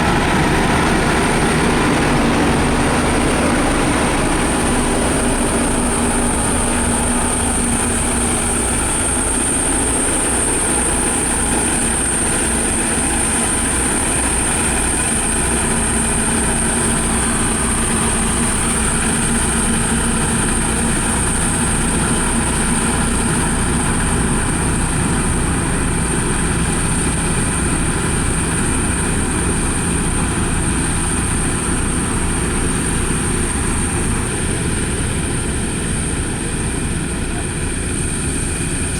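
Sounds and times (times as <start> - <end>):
diesel construction machinery running: 0.0 - 38.9.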